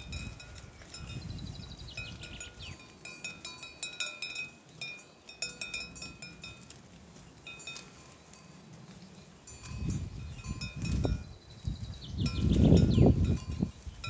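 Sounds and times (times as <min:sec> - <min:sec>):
small metal bells tinkling: 0:00.0 - 0:14.0.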